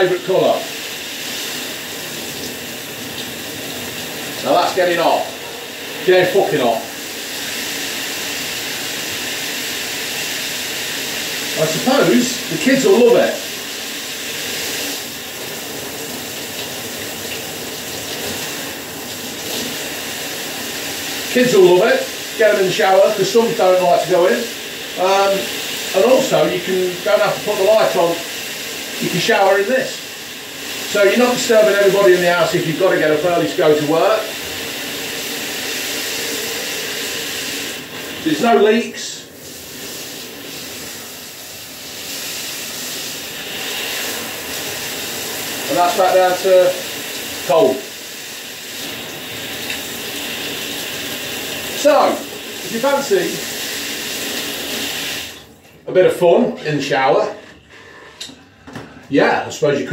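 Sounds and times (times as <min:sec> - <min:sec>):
shower spray hissing on wall: 0:00.0 - 0:55.6.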